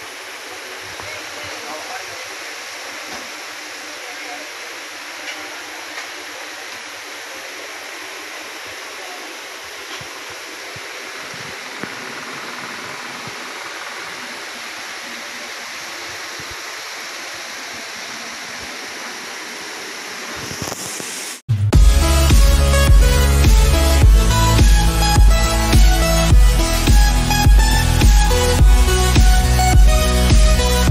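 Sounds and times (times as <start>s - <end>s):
rushing background hiss: 0.0s - 30.9s.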